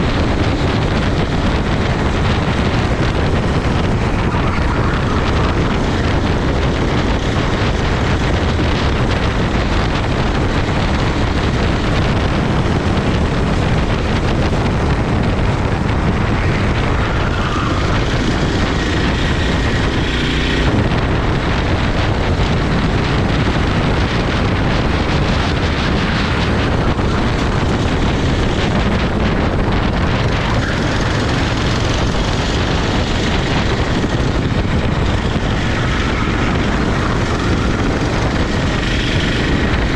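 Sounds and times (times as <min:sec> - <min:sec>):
racing kart engine running: 0:00.0 - 0:39.9
wind buffeting microphone: 0:00.0 - 0:39.9.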